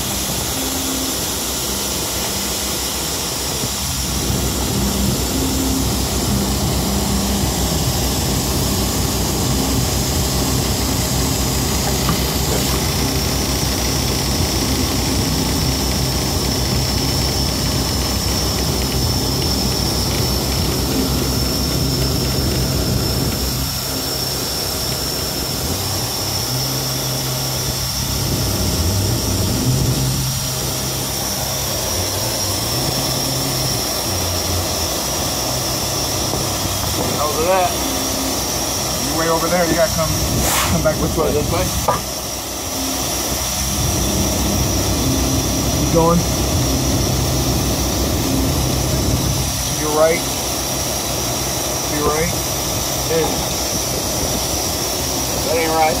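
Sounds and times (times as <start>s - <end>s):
thin steady high whine: 0.0s - 56.0s.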